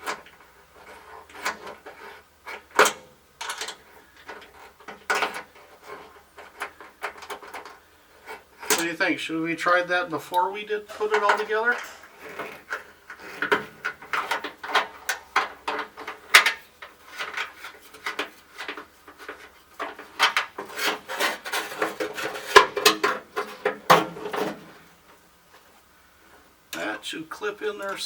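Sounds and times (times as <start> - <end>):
dashboard parts clicking and rattling: 0.0 - 9.1, 10.3 - 25.7.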